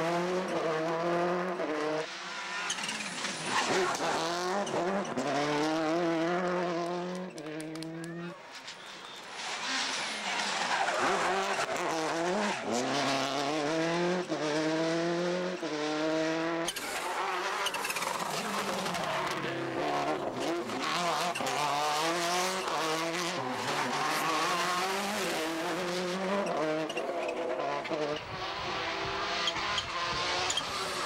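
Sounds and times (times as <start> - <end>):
rally car engine at full throttle: 0.0 - 31.0.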